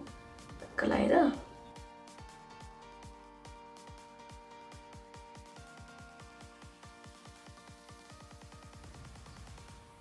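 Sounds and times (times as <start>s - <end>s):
faint electronic music: 0.0s - 10.0s.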